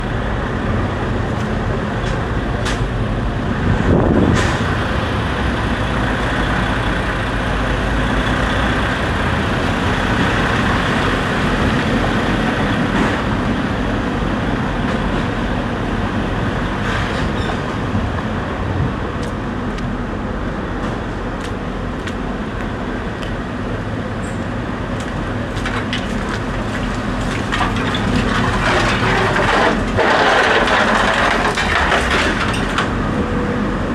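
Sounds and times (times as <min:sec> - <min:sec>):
heavy vehicle engine running: 0:00.0 - 0:33.9.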